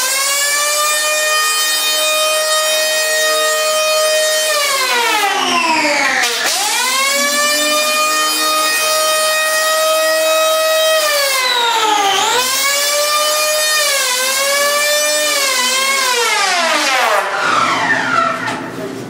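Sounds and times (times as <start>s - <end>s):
electric planer whining: 0.0s - 18.6s.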